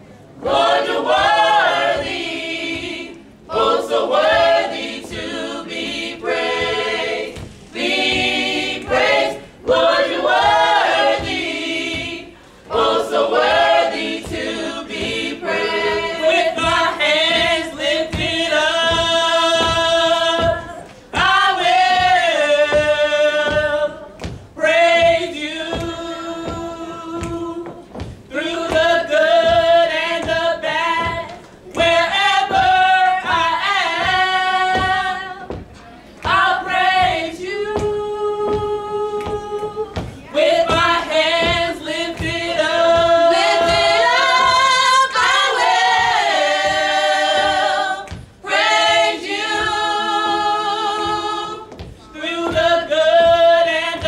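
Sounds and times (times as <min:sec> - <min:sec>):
gospel choir singing a cappella: 0:00.0 - 0:54.0.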